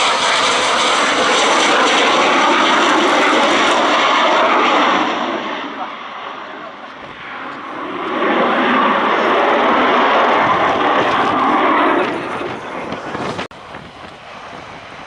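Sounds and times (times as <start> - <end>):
military aircraft engine: 0.0 - 15.0.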